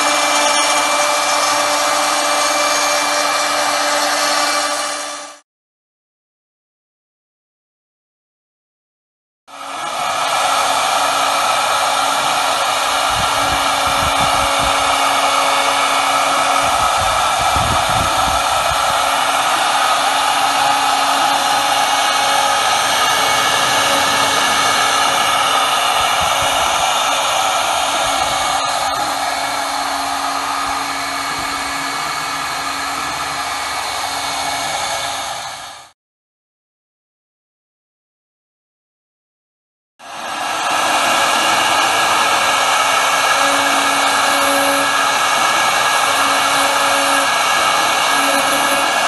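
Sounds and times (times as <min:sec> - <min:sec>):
router spindle cutting wood: 0:00.0 - 0:05.4, 0:09.5 - 0:35.9, 0:40.0 - 0:49.0.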